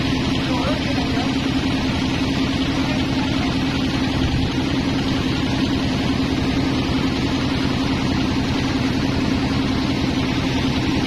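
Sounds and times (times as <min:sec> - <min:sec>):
band saw machinery humming: 0:00.0 - 0:11.0.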